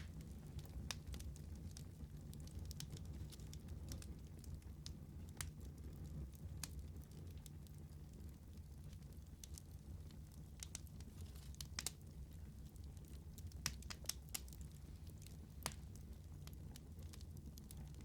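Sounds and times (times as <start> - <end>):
fire crackling and popping: 0.0 - 18.0
fire flames rumbling: 0.0 - 18.0.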